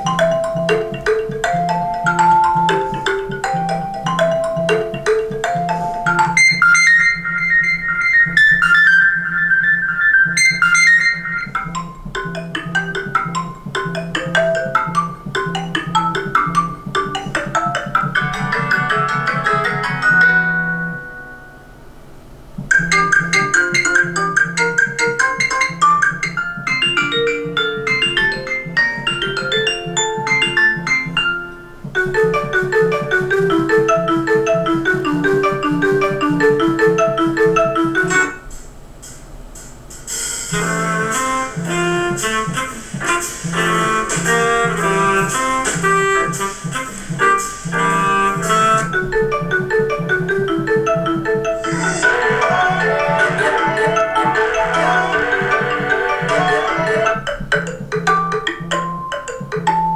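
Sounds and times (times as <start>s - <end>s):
short melodic ringtone tunes: 0.0s - 21.4s, 22.7s - 38.4s, 47.2s - 59.9s.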